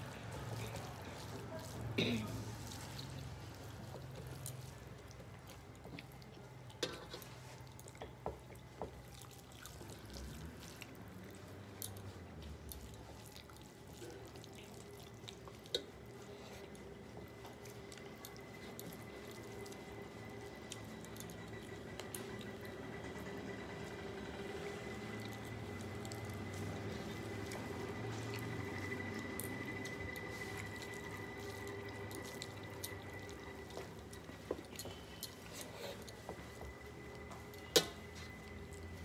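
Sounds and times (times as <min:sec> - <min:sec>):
fingers squishing rice: 0:00.0 - 0:39.0.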